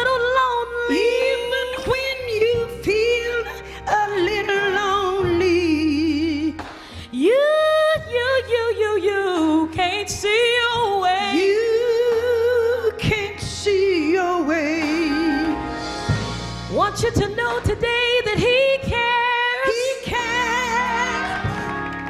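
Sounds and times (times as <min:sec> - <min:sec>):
woman singing gospel: 0:00.0 - 0:15.6, 0:16.7 - 0:22.0
low musical accompaniment: 0:00.0 - 0:22.0.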